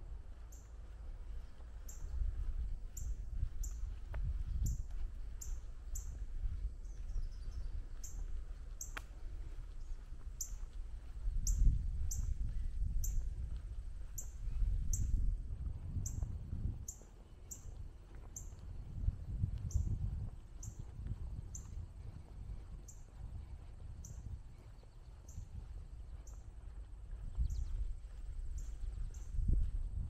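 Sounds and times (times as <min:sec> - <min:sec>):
low outdoor rumble: 0:00.0 - 0:30.0
small bird chirping: 0:00.5 - 0:00.8, 0:01.4 - 0:13.3, 0:14.1 - 0:15.3, 0:16.0 - 0:18.7, 0:19.3 - 0:21.9, 0:22.8 - 0:29.6.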